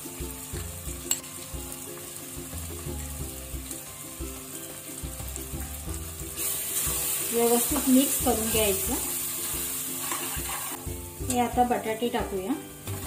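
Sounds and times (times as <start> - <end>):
quiet background music: 0.0 - 13.0
vegetables sizzling in oil: 0.0 - 13.0.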